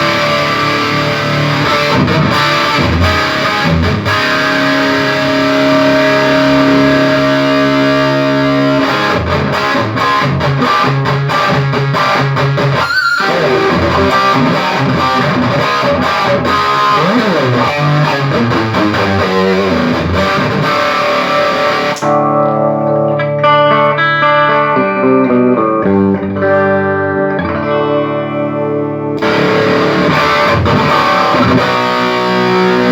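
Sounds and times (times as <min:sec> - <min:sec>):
distorted electric guitar: 0:00.0 - 0:32.9.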